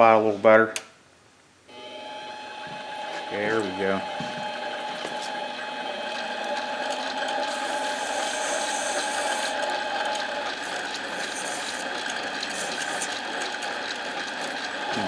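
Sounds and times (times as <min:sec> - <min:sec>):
lathe whirring and rattling: 0:01.8 - 0:15.0.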